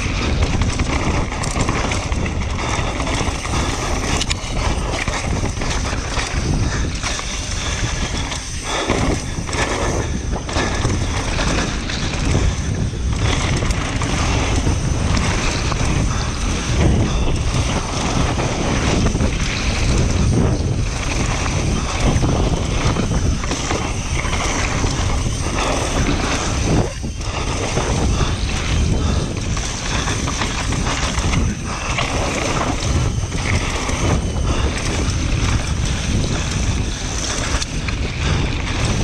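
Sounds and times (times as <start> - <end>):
bike tyre noise on dirt: 0.0 - 39.0
wind rushing over microphone: 0.0 - 39.0.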